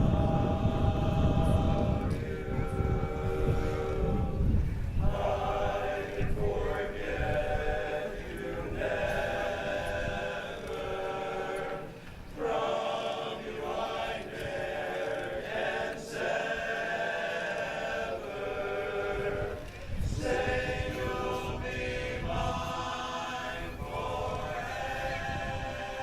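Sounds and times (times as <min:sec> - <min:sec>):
barbershop chorus singing: 0:00.0 - 0:26.0.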